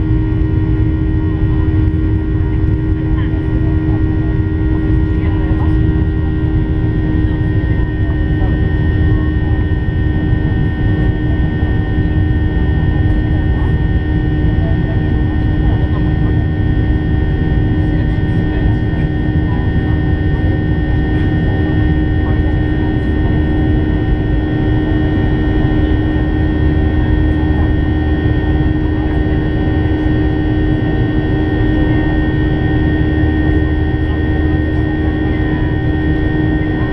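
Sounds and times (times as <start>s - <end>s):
jet engines droning in cabin: 0.0s - 36.9s.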